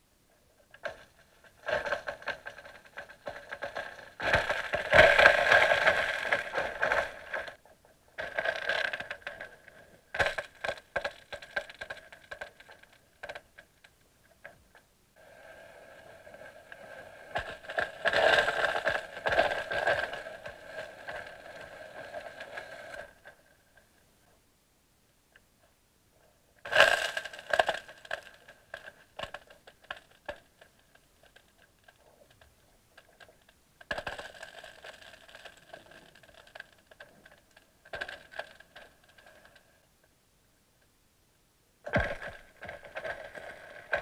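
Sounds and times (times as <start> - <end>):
ice cracking underwater: 0.7 - 14.8, 16.7 - 23.9, 26.6 - 39.8, 41.8 - 44.0.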